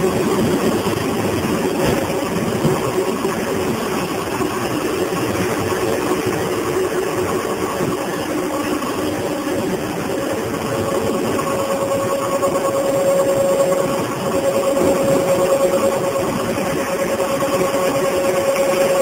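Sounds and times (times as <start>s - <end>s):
faint whining tones: 0.0s - 19.0s
machinery humming: 0.0s - 19.0s.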